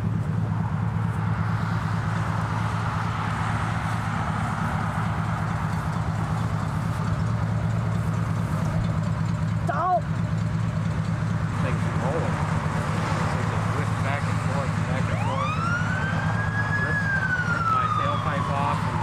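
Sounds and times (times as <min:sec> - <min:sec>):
road traffic noise: 0:00.0 - 0:19.0
vehicle engine running: 0:00.0 - 0:19.0.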